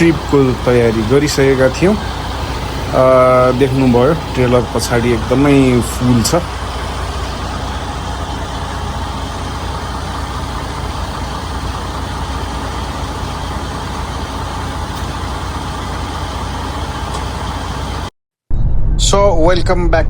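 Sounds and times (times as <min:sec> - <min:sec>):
truck engine rumbling: 0:00.0 - 0:18.1.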